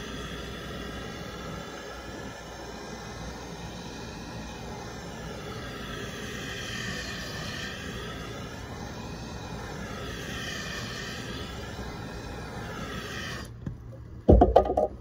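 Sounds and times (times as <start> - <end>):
blowtorch flame hissing: 0.0 - 13.7.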